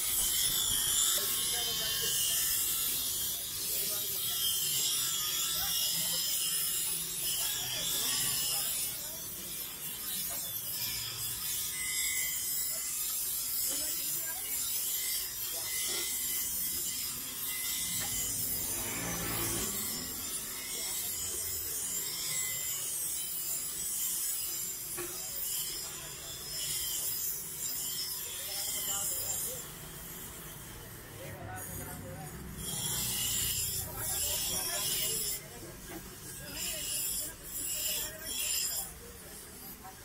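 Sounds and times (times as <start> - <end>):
grinder wheel grinding steel: 0.0 - 40.0.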